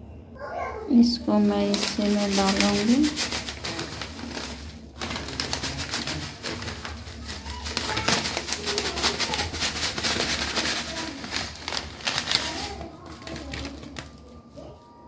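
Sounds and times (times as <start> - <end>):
plastic packet crinkling: 1.0 - 14.8
noodles pattering on metal plate: 1.2 - 14.3.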